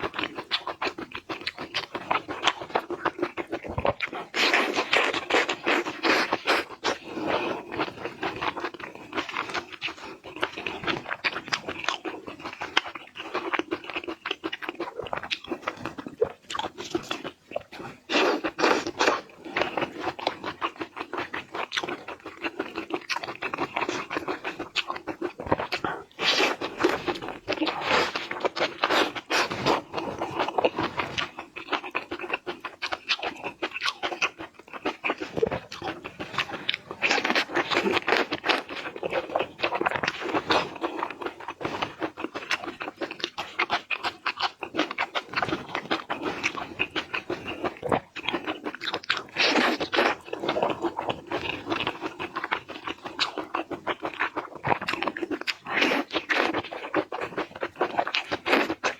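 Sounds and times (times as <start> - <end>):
seafood being crunched and chewed: 0.0 - 58.9.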